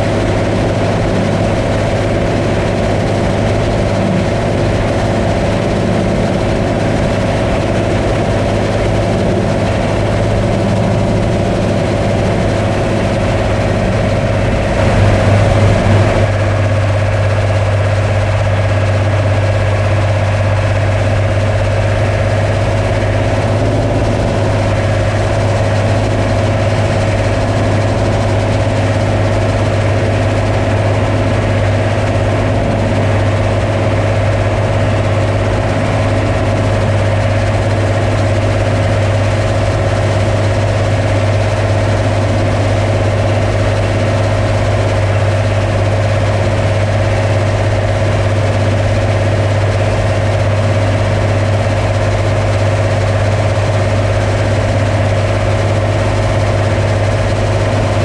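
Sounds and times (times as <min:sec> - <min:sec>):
combine harvester engine hum: 0:00.0 - 0:58.0
machinery whine: 0:00.0 - 0:58.0.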